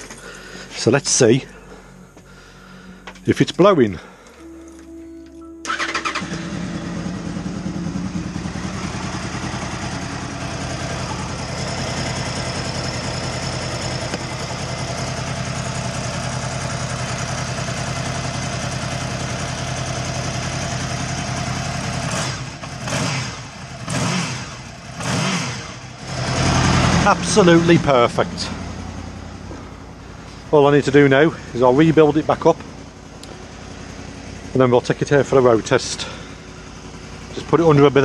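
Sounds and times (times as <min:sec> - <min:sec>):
motorcycle engine idling and revving: 0:05.6 - 0:38.0.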